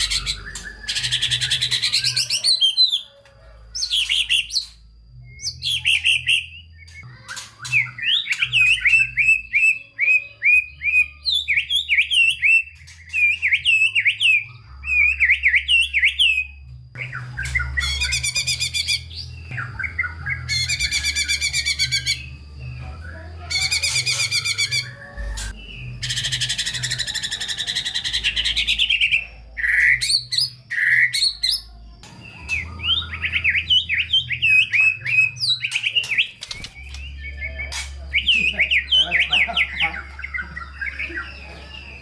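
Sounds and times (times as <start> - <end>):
bird singing whistled phrases and trills: 0.0 - 42.0.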